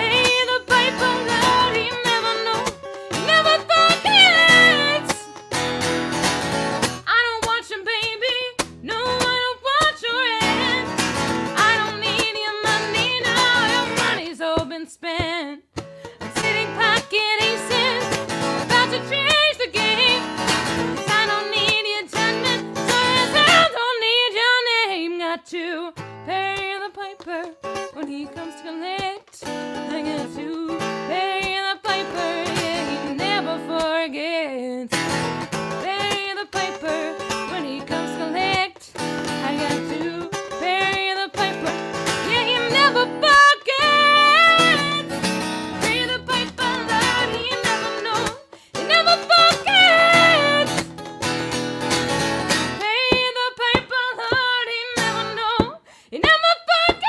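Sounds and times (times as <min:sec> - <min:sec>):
woman singing: 0:00.0 - 0:05.6, 0:07.0 - 0:50.9, 0:52.1 - 0:57.0
strummed acoustic guitar: 0:00.0 - 0:24.8, 0:26.0 - 0:34.2, 0:34.9 - 0:57.0.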